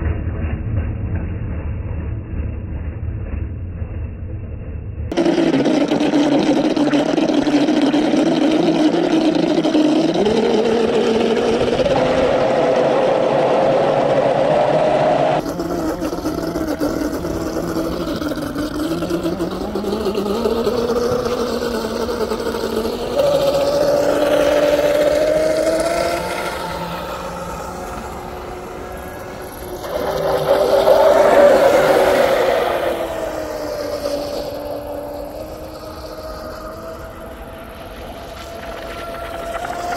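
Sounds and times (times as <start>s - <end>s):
model motor revving: 5.1s - 39.9s.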